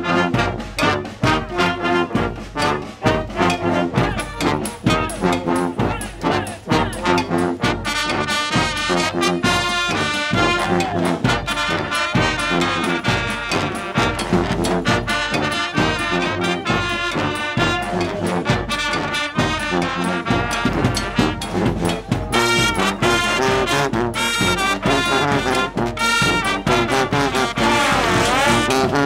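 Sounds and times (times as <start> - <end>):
steady drum beat: 0.0 - 29.0
trombones and trumpets playing: 0.0 - 29.0.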